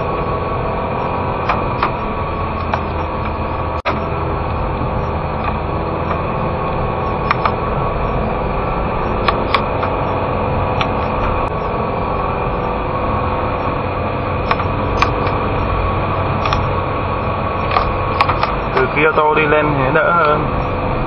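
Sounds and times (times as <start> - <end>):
car engine and tyre noise: 0.0 - 21.0.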